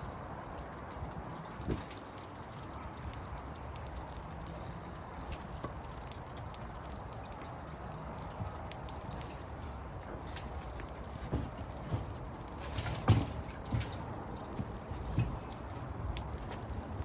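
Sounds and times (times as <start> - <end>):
water trickling and dripping: 0.0 - 17.0.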